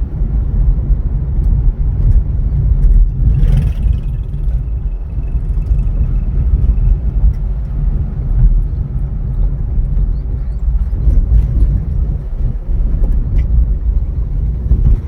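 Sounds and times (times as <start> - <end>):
car rumbling on the move: 0.0 - 15.0.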